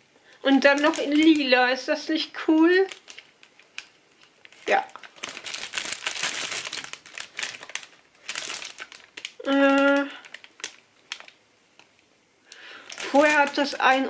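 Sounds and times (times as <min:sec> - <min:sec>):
plastic sleeve crinkling: 0:00.4 - 0:01.6, 0:02.4 - 0:14.0.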